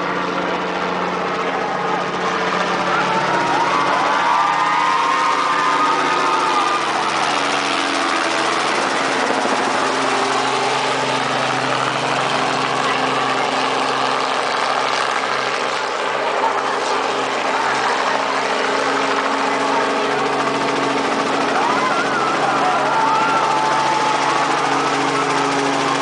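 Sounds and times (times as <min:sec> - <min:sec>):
helicopter engine and rotor: 0:00.0 - 0:26.0.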